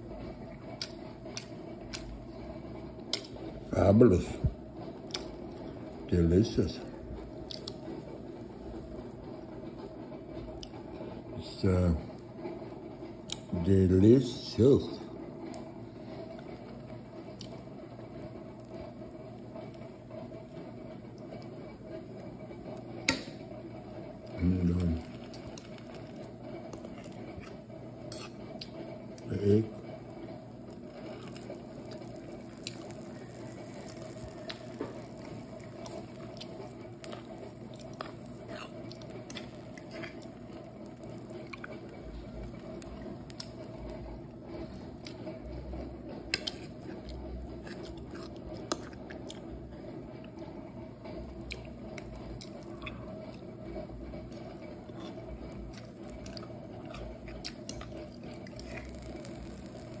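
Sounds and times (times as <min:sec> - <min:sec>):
eggs frying with crackles and pops: 0:00.0 - 1:00.0
gas stove low hum: 0:00.0 - 1:00.0.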